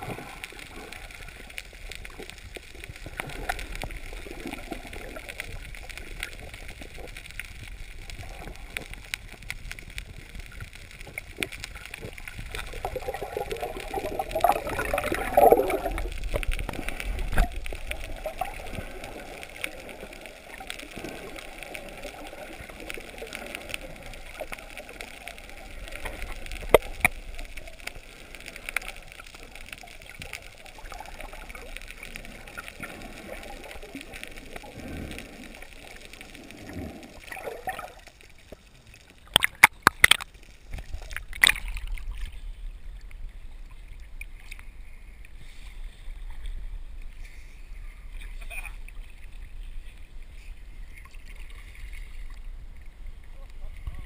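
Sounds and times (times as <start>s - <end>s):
muffled underwater water rushing: 0.0s - 54.0s
water splashes: 0.0s - 54.0s.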